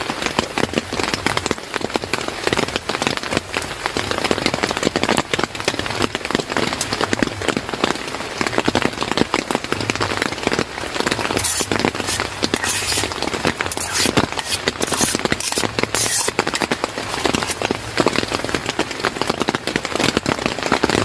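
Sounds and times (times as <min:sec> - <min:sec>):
rain drops clattering: 0:00.0 - 0:21.0.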